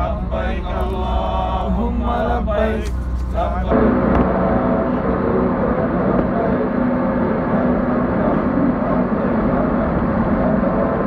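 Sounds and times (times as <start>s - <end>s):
road and engine noise inside vehicle: 0.0s - 11.0s.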